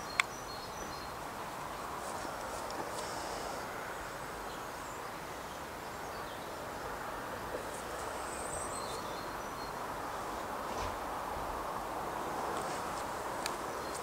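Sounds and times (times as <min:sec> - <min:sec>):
small birds chirping: 0:00.0 - 0:11.2, 0:12.0 - 0:14.0
outdoor background hiss: 0:00.0 - 0:14.0.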